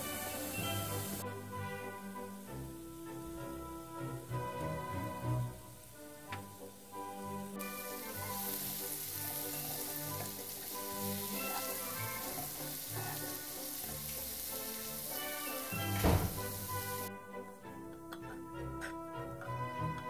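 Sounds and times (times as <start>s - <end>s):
onion sizzling in oil: 0.0s - 17.1s
background music: 0.0s - 20.0s.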